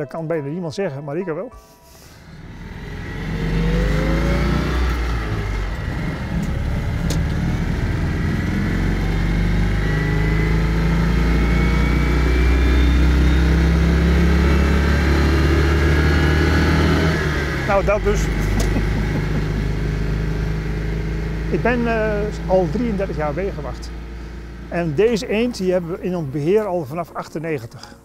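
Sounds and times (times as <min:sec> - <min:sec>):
small engine revving: 0:02.0 - 0:26.2.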